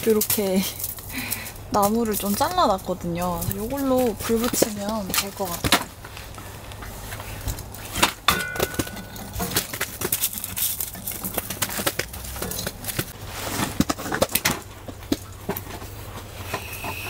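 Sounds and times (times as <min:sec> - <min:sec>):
kindling sticks clattering: 0:00.0 - 0:15.8.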